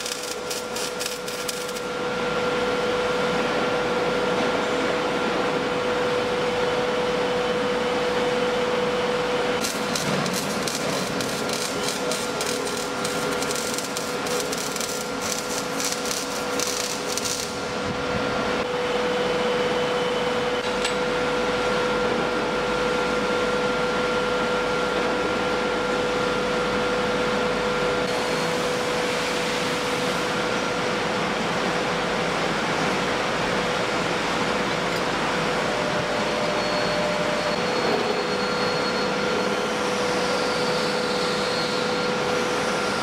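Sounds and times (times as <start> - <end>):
workshop machine hiss and hum: 0.0 - 43.0.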